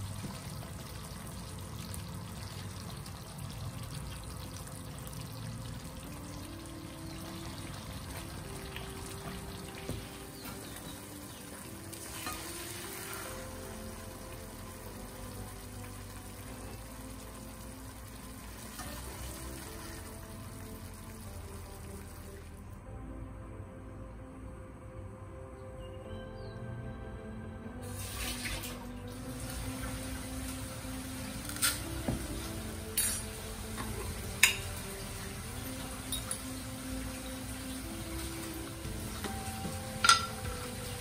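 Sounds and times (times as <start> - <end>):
soft background music: 0.0 - 41.0.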